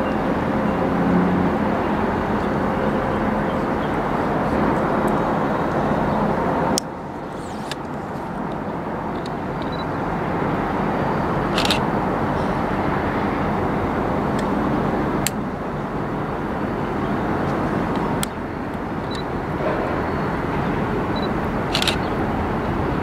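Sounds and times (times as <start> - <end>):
diesel locomotive drone and hiss: 0.0 - 23.0.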